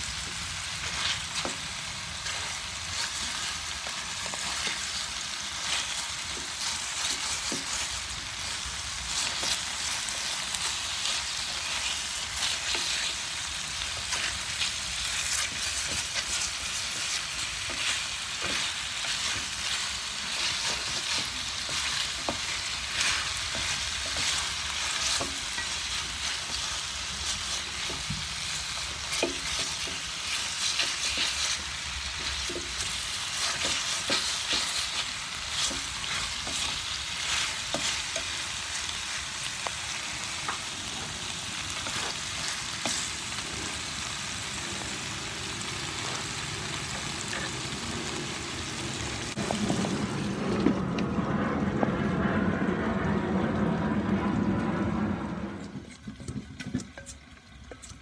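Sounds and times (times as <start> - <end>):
chicken sizzling in hot fat: 0.0 - 58.0.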